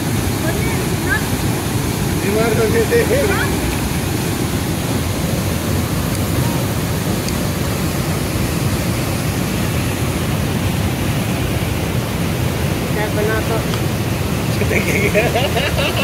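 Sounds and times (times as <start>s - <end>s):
waterfall pouring into rocky pool: 0.0s - 14.7s.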